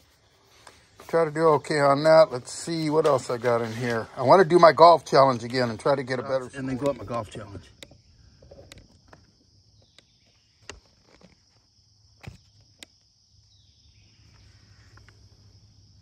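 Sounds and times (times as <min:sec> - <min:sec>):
high insect chorus: 0:00.0 - 0:16.0.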